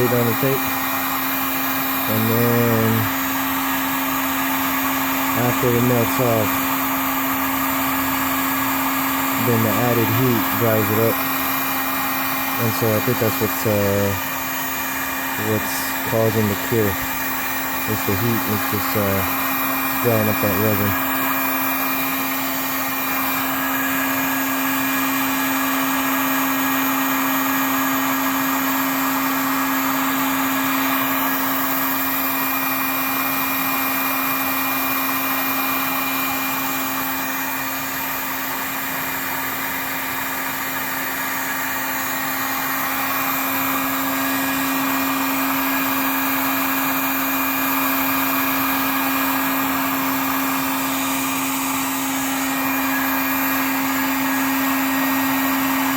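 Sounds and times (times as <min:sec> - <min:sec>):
heat gun running: 0:00.0 - 0:55.9.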